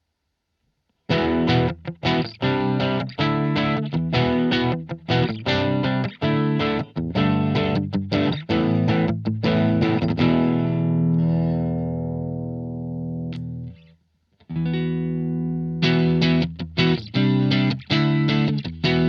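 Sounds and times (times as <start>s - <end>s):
electric guitar chords: 1.1s - 19.0s.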